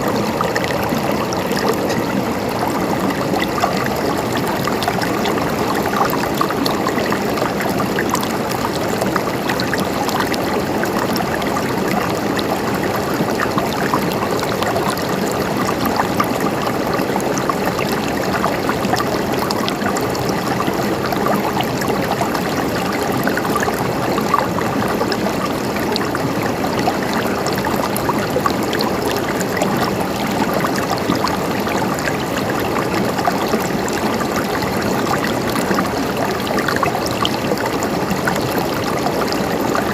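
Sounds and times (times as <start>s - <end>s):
river water flowing over stones: 0.0s - 39.9s
small water splashes: 0.0s - 39.9s.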